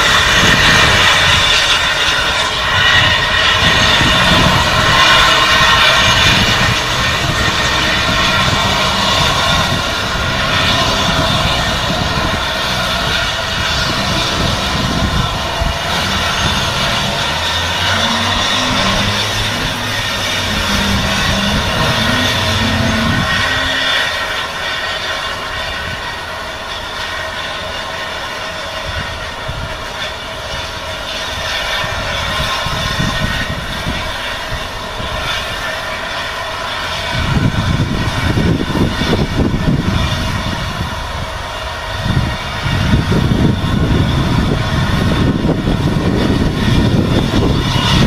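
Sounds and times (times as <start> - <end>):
heavy low rumbling: 0.0 - 48.0
steam train running: 0.0 - 48.0.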